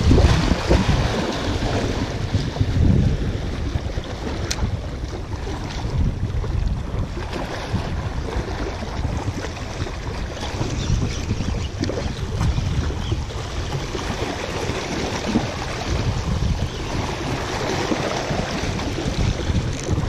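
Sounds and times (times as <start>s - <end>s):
waves washing against rocks: 0.0s - 20.0s
wind buffeting microphone: 0.0s - 20.0s.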